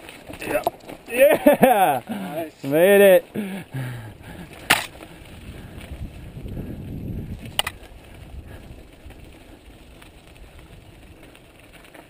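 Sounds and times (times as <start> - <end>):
bike tyres rolling on trail: 0.0 - 12.0.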